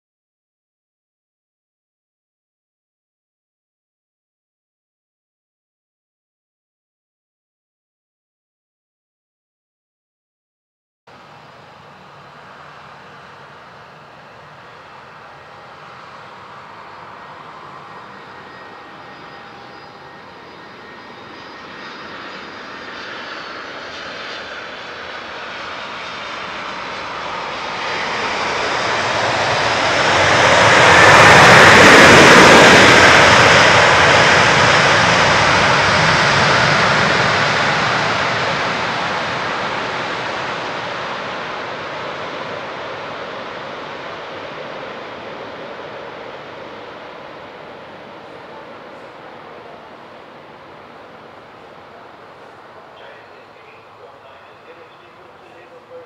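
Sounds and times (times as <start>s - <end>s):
jet engine roar: 11.1s - 56.0s.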